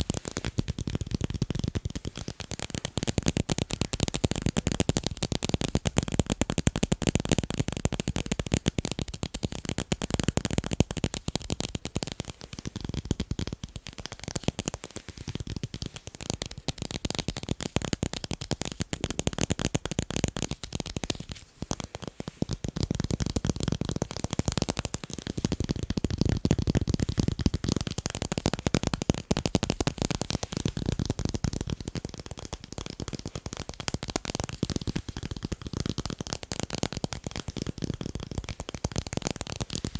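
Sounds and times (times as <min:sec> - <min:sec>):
rapid tapping on tape: 0:00.0 - 0:39.9.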